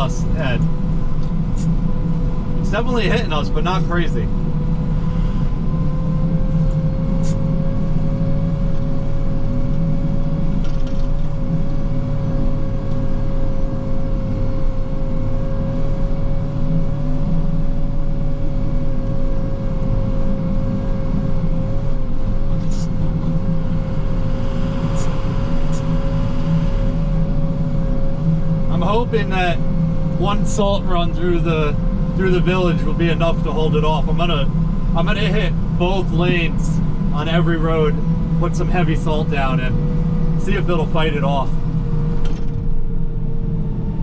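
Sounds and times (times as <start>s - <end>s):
high whine: 0.0s - 44.0s
truck engine rumble: 0.0s - 44.0s.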